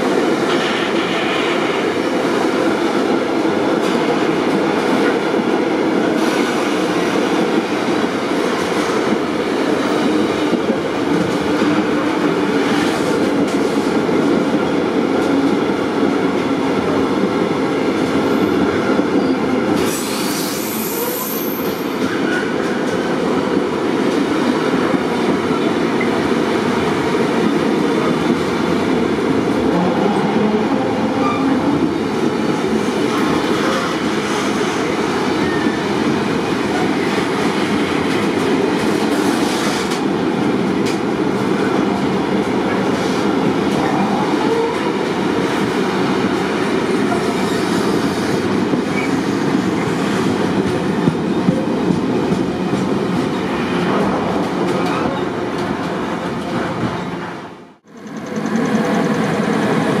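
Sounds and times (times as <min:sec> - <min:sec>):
freight train rolling past: 0:00.0 - 1:00.0.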